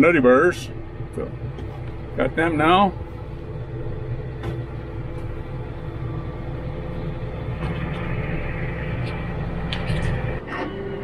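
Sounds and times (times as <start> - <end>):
tractor engine idling: 0.0 - 10.6.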